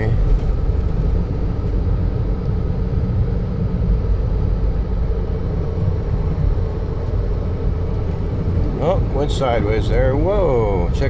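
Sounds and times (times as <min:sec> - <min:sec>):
vehicle driving on snowy road: 0:00.0 - 0:11.0.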